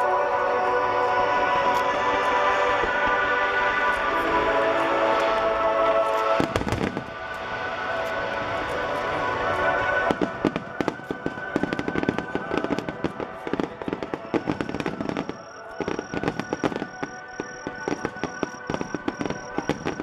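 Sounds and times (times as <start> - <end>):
fireworks crackling and popping: 0.0 - 20.0
music playing: 0.0 - 20.0.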